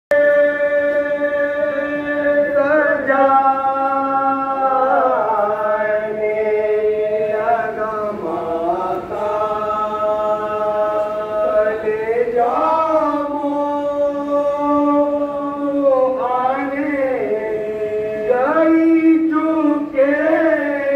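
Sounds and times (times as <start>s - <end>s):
men chanting a lament: 0.1s - 20.9s.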